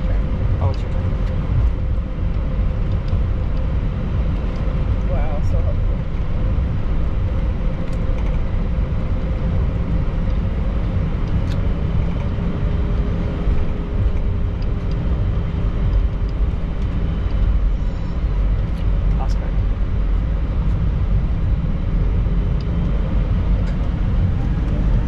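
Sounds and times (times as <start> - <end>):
airplane cabin rumble: 0.0 - 25.0
faint constant hum: 0.0 - 25.0.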